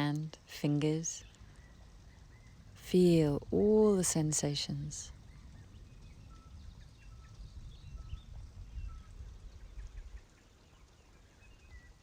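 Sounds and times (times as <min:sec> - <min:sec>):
faint birds chirping: 0:00.0 - 0:12.0
low rumble of breeze: 0:00.0 - 0:12.0.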